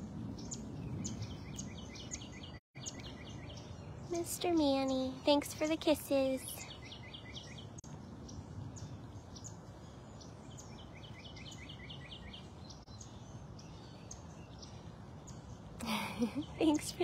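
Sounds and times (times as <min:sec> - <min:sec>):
low outdoor background hum: 0:00.0 - 0:17.0.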